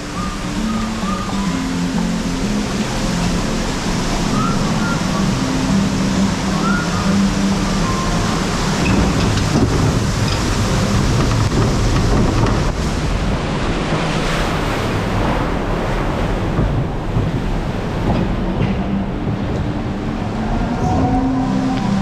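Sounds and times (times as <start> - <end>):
water rushing along flume channel: 0.0 - 22.0
wind buffeting microphone: 2.4 - 22.0.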